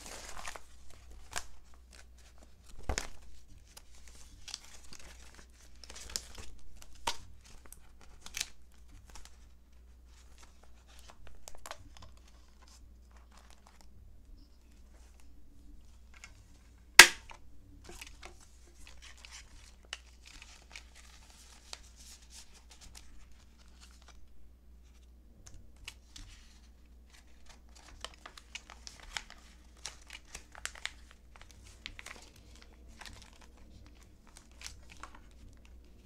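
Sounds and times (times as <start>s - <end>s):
plastic pages crinkling: 0.0s - 36.0s.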